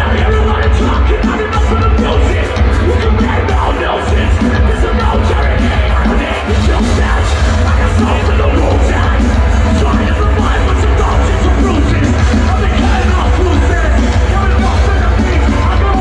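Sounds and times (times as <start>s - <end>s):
drums: 0.0s - 16.0s
guitars: 0.0s - 16.0s
shouted vocals: 0.0s - 16.0s.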